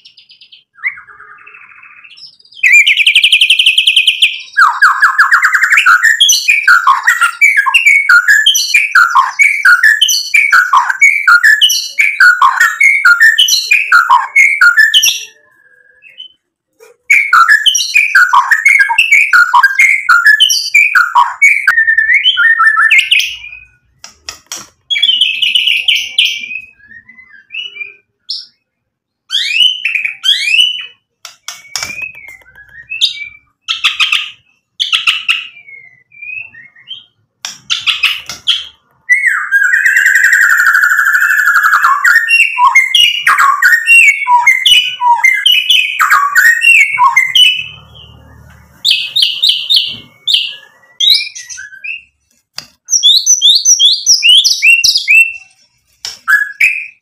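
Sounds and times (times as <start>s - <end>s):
bird singing whistled notes: 0.0s - 16.5s, 17.1s - 24.0s, 24.9s - 34.1s, 34.8s - 52.2s, 52.8s - 55.6s, 56.2s - 57.0s.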